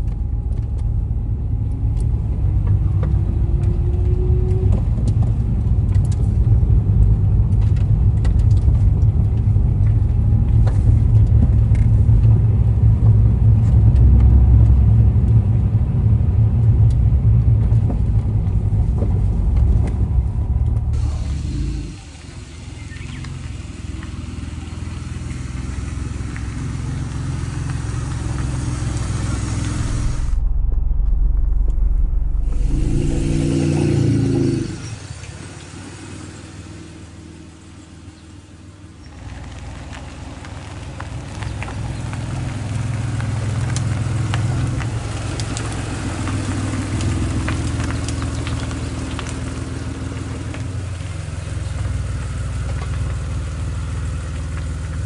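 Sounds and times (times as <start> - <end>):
sports car engine: 0.0 - 55.0.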